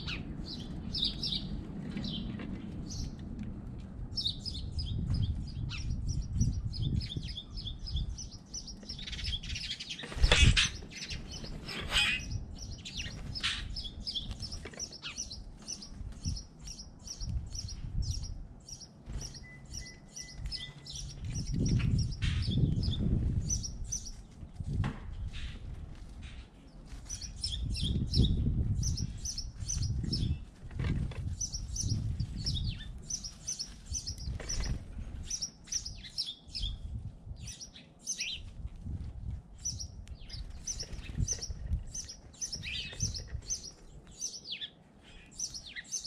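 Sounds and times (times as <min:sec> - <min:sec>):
small songbirds chirping: 0:00.0 - 0:03.3, 0:04.1 - 0:46.0.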